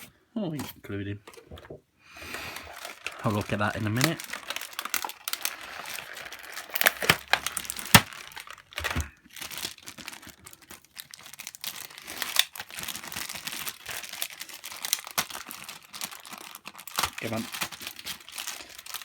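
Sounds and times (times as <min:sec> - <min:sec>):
toy packaging crinkling and rustling: 0:01.2 - 0:19.0
packaging clicks: 0:02.3 - 0:19.0.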